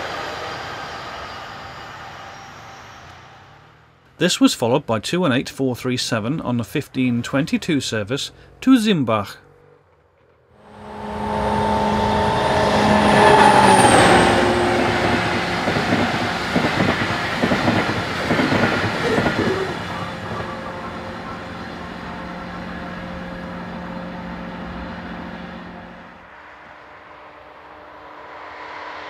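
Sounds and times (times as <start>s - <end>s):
diesel locomotive passing: 0.0s - 29.0s
low train drone: 0.0s - 29.0s.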